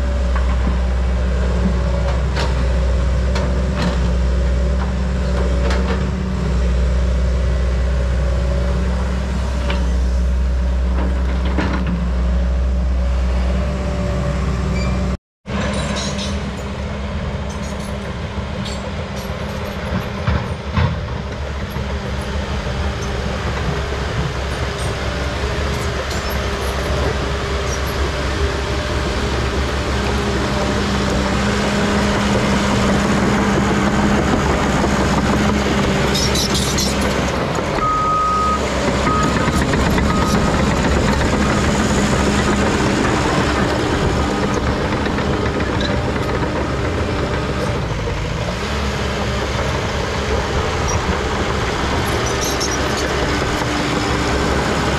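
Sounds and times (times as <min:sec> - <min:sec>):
diesel earthmoving machines running: 0:00.0 - 0:54.9.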